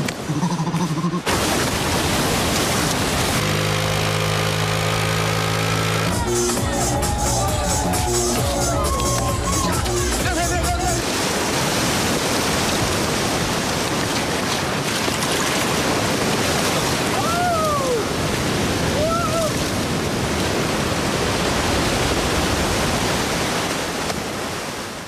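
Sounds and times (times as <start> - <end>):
waves breaking on a beach: 0.0 - 6.2, 7.0 - 25.0.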